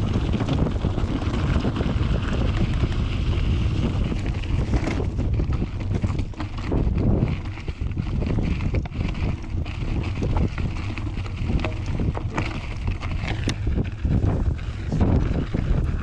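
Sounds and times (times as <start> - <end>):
bike tyres on gravel rumble: 0.0 - 16.0
clicks and rattles from bike: 0.0 - 16.0
wind buffeting microphone: 0.0 - 16.0.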